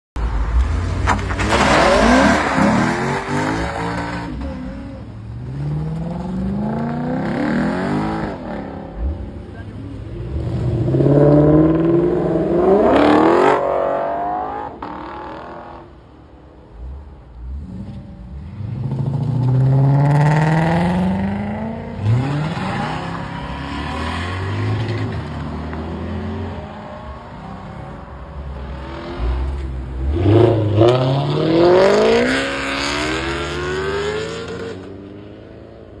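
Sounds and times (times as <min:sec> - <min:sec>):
car engines accelerating: 0:00.2 - 0:36.0.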